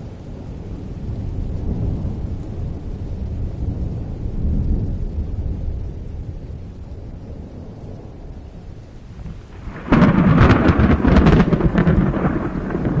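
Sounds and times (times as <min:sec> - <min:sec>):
rain falling: 0:00.0 - 0:13.0
thunder rumble: 0:00.0 - 0:13.0
loud crackling thunderclap: 0:00.5 - 0:13.0.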